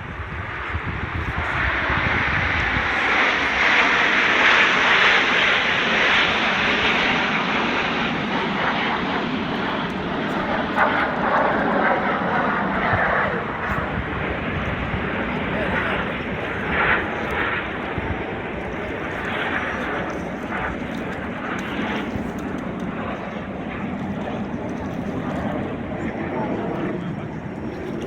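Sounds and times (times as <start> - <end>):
airplane flying overhead: 0.0 - 28.0.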